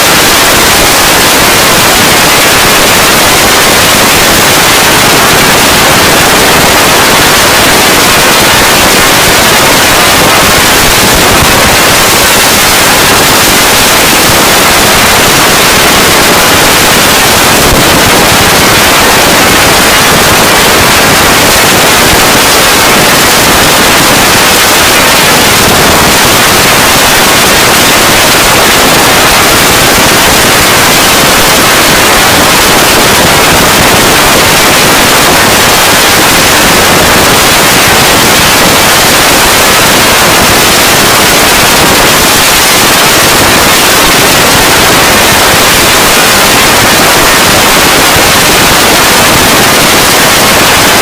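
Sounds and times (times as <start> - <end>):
distorted digital static: 0.0 - 51.0.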